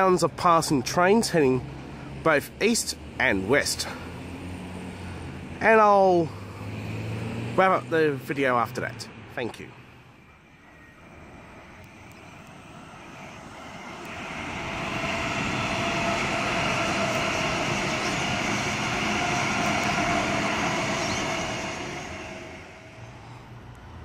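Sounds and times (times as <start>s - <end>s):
electric train whine: 0.0s - 24.0s
wheels rumbling on rail: 0.0s - 24.0s.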